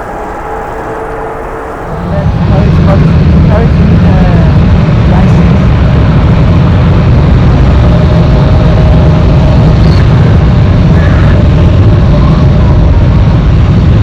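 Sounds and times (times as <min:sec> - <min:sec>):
faint steady whine: 0:00.0 - 0:14.0
jet airliner engines rumbling: 0:00.0 - 0:14.0.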